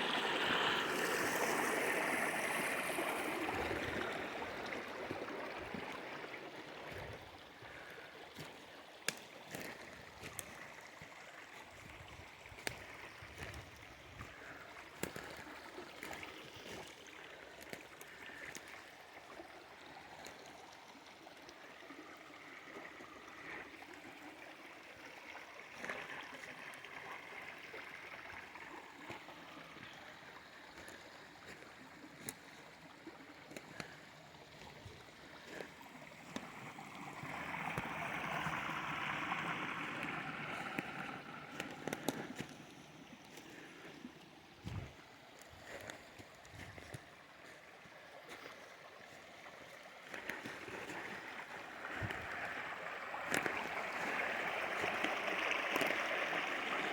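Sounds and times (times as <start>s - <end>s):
water rushing into pond: 0.0s - 56.9s.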